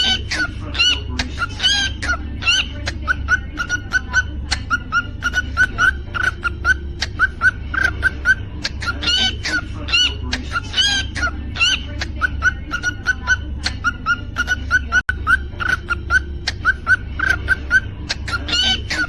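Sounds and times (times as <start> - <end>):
cockatiel chirping and whistling: 0.0 - 19.0
steady low hum: 0.0 - 19.0.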